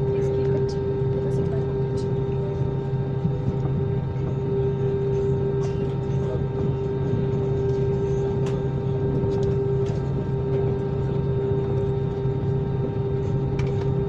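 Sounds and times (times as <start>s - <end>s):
jet engines heard in cabin: 0.0s - 14.0s.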